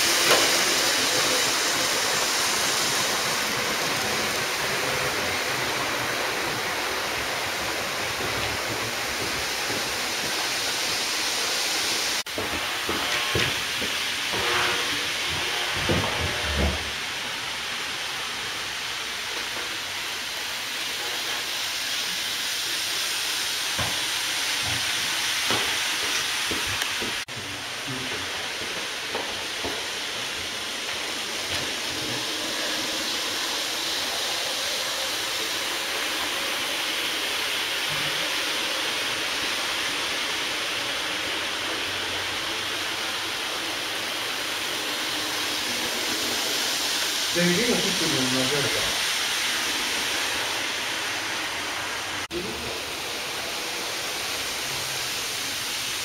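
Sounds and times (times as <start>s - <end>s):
model trains running: 0.0s - 56.0s.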